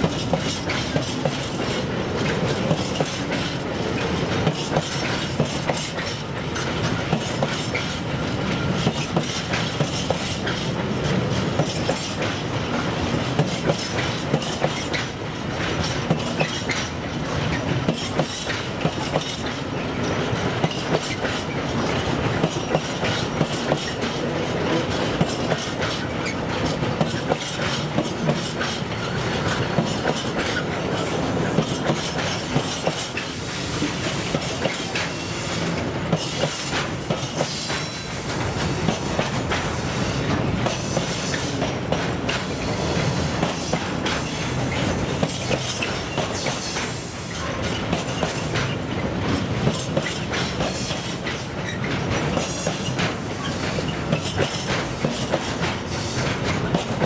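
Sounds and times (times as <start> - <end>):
wheels clicking over rail joints: 0.0 - 33.4, 35.8 - 57.0
train wagons rumbling: 0.0 - 57.0.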